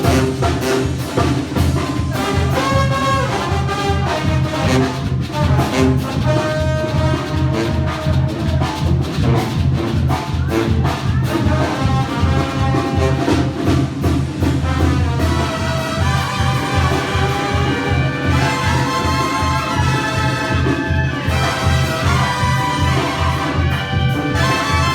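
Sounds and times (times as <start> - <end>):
brass band playing: 0.0 - 24.9
drums beating: 0.0 - 24.9.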